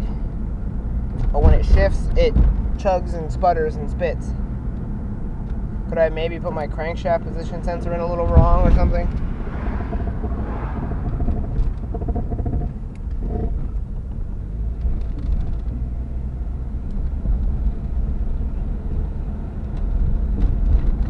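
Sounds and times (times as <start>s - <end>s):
car engine rumble from inside: 0.0s - 21.0s.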